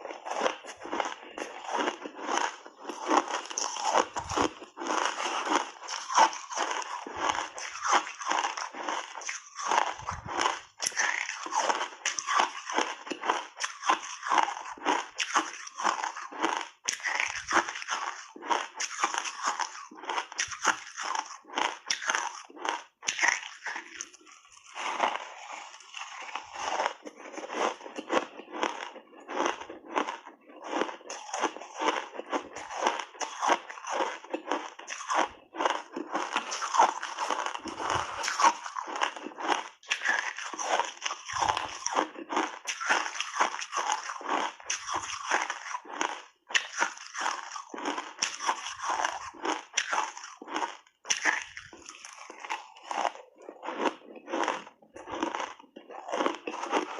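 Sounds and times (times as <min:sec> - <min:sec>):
person crunching ice: 0:00.0 - 0:56.9.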